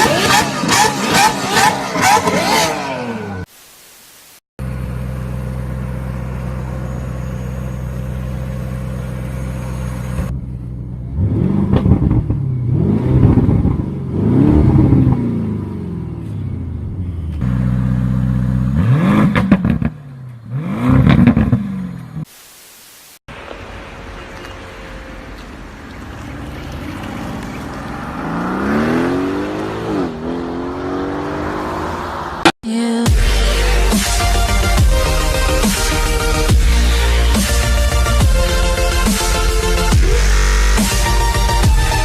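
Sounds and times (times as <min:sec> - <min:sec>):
car engine idling and revving: 0:00.0 - 0:03.5, 0:04.6 - 0:22.3, 0:23.4 - 0:42.0.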